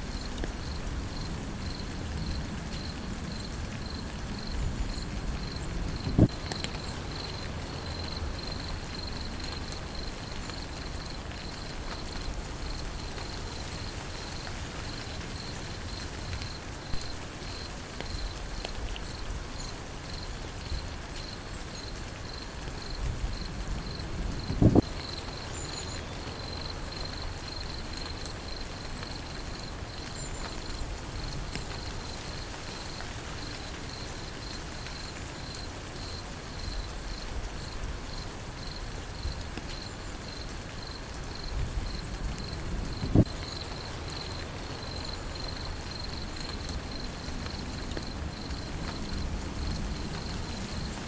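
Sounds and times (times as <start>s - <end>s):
steady rain falling: 0.0s - 51.0s
insect chirping: 0.1s - 51.0s.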